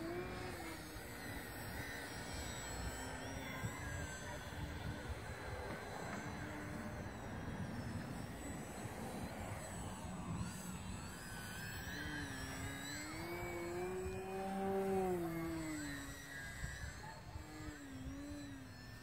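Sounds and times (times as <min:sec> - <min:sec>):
model plane motor and propeller droning: 0:00.0 - 0:19.0.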